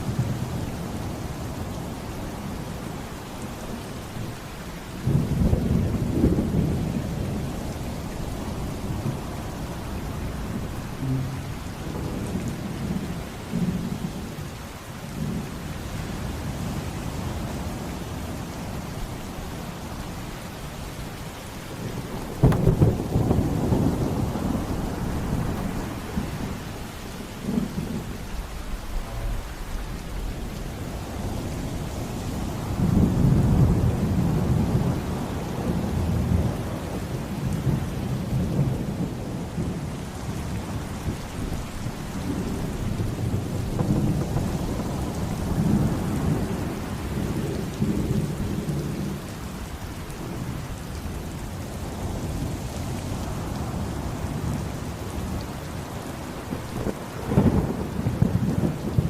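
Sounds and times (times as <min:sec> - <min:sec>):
thunder rumbling: 0:00.0 - 0:14.4, 0:21.5 - 0:52.5, 0:56.0 - 0:59.0
heavy rain: 0:00.0 - 0:59.0.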